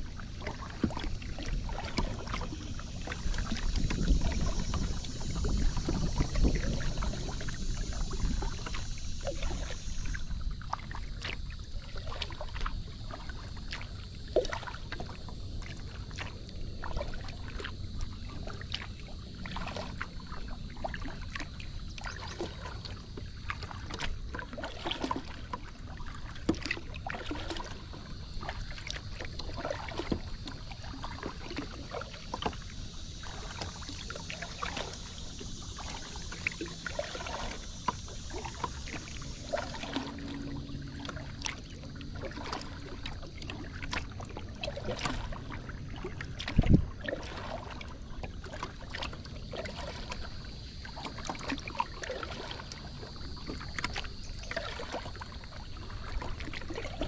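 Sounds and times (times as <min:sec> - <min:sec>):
kayak paddle splashing water: 0:00.0 - 0:57.0.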